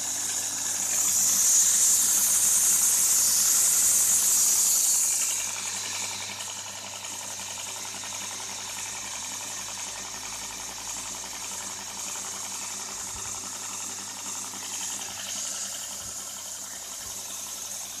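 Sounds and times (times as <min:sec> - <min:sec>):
belt grinder running: 0:00.0 - 0:18.0.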